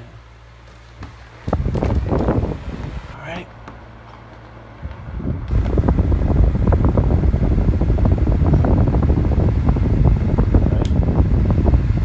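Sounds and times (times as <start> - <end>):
desk fan blowing on microphone: 0.0 - 12.0.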